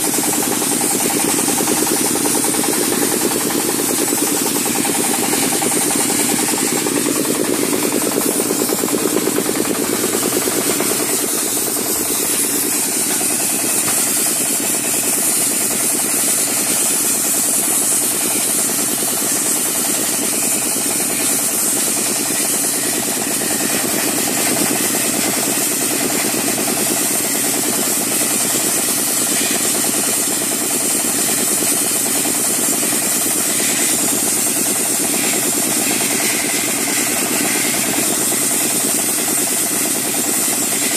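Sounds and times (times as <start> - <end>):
sandblaster jet hissing on steel: 0.0 - 40.9
steady machine drone: 0.0 - 40.9.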